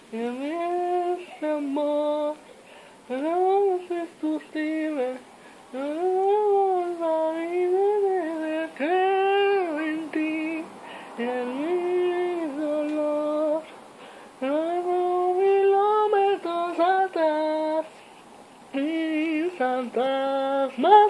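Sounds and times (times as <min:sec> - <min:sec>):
person singing unaccompanied: 0:00.0 - 0:21.0.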